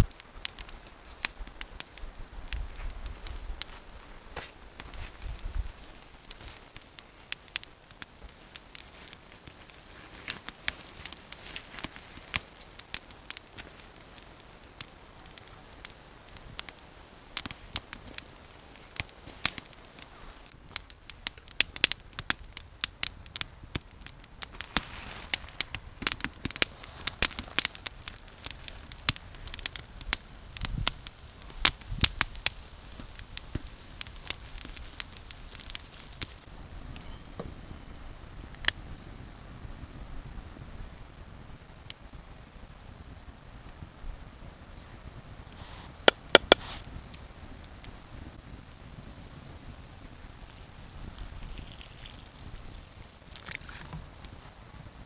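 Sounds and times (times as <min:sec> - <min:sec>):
campfire crackling and snapping: 0:00.0 - 0:55.0.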